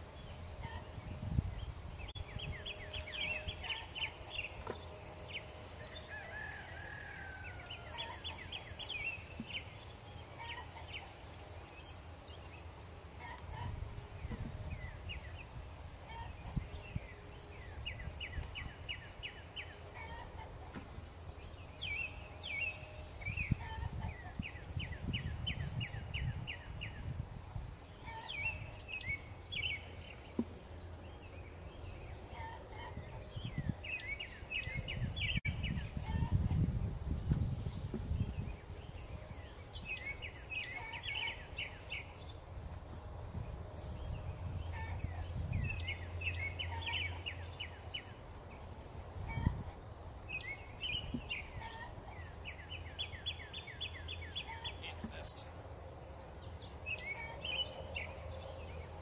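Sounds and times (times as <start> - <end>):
small birds trilling: 0.0 - 59.0.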